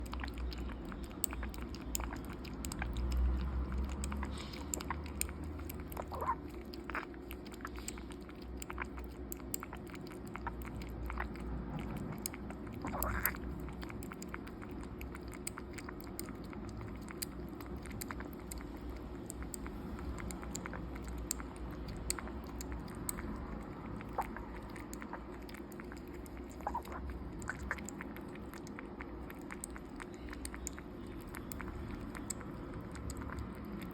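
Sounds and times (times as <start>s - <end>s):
kitten feeding wet clicks: 0.0s - 33.9s.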